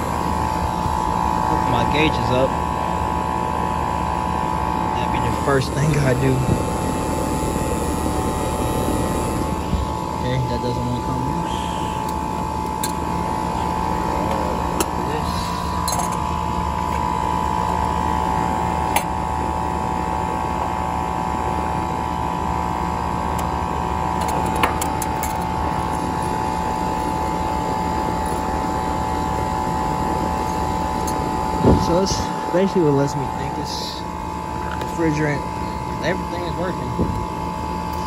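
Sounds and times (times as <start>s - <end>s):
air conditioner unit humming: 0.0s - 38.0s.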